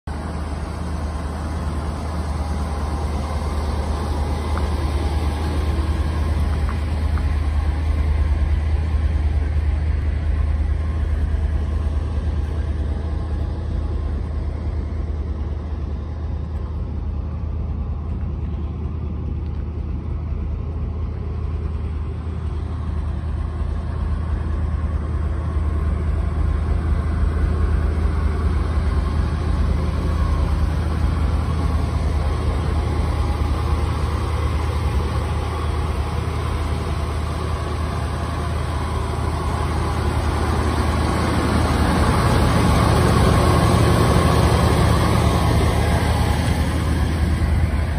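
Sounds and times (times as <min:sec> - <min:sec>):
pickup engine idling: 0:00.0 - 0:47.9.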